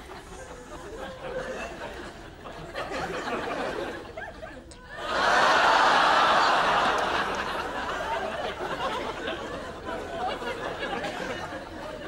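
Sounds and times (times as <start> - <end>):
studio audience laughing: 0.0 - 12.0.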